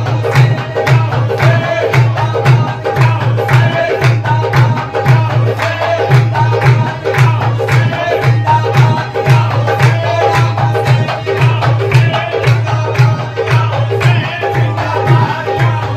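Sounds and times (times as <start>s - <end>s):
fast hand-drum beat: 0.0s - 15.9s.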